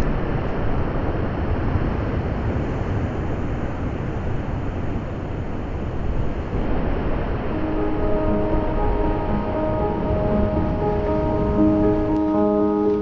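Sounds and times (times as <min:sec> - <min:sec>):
sea surf rumble: 0:00.0 - 0:13.0
wind on microphone: 0:00.0 - 0:13.0.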